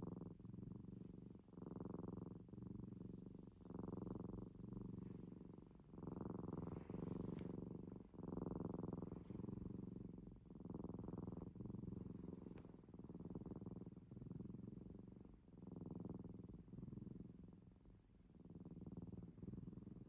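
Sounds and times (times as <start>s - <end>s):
cat snoring: 0.0s - 17.4s.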